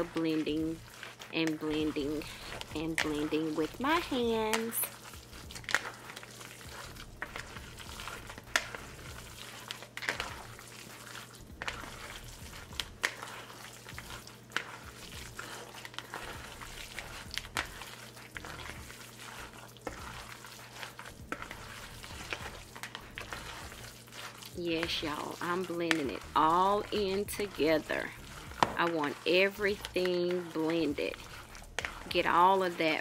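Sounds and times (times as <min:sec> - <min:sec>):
hands squishing wet food: 0:00.0 - 0:33.0.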